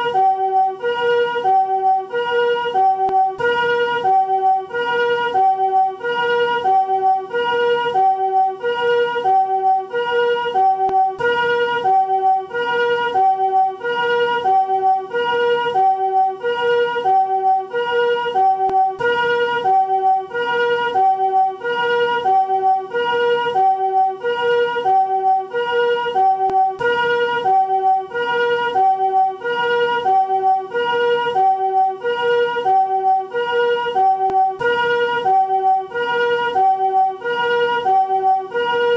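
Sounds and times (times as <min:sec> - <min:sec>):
two-tone ambulance siren: 0:00.0 - 0:38.9.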